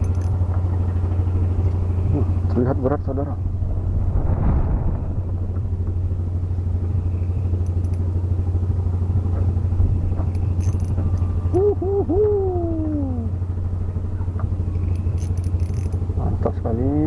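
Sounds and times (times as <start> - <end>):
small engine humming: 0.0 - 3.8, 5.4 - 17.0.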